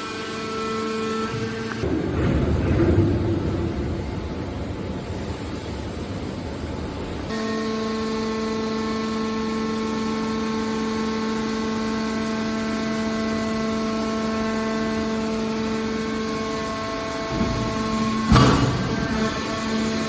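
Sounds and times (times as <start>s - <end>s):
hydraulic baler humming and whining: 0.0s - 20.0s.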